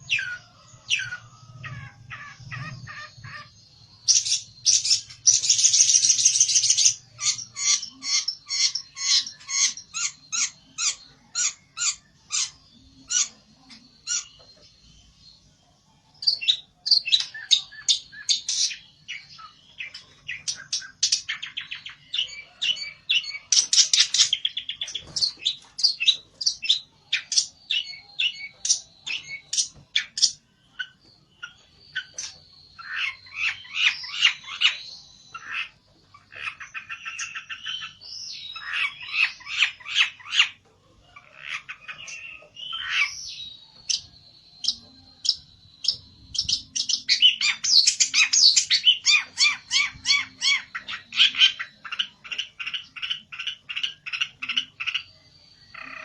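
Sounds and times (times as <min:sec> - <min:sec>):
bird chirping and trilling: 0:00.0 - 0:56.0.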